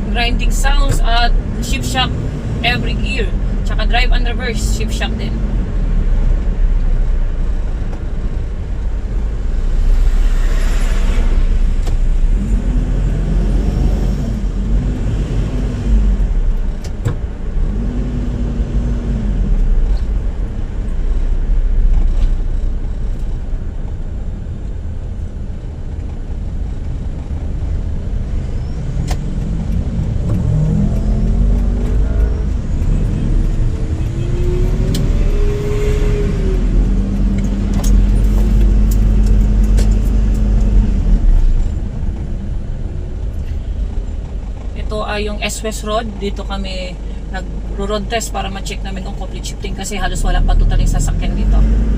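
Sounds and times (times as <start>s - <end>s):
car engine and road rumble: 0.0s - 51.9s.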